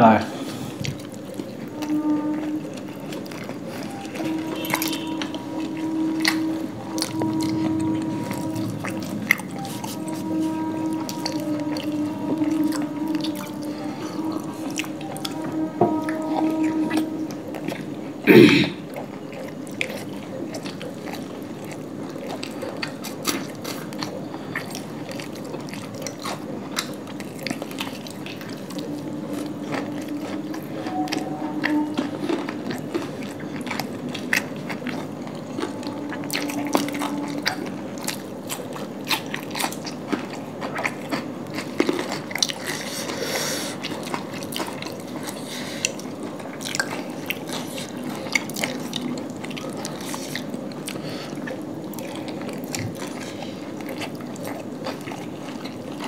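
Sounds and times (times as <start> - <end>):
chewing and biting flaky bread: 0.3 - 56.0.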